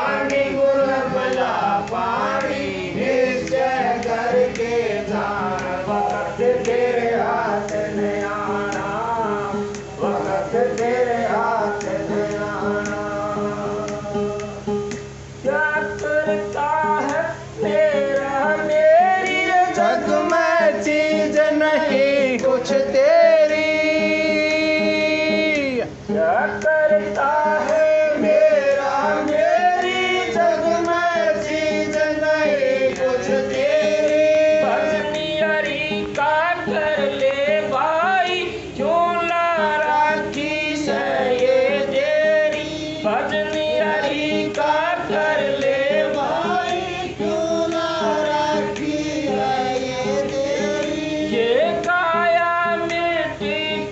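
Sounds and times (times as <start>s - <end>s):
man singing into a microphone: 0.0s - 53.9s
plucked string accompaniment: 0.0s - 53.9s.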